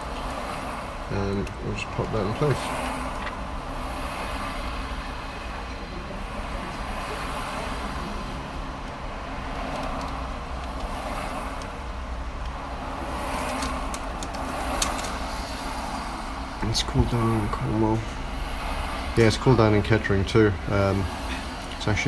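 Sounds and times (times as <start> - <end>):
motorway traffic rushing: 0.0 - 22.0.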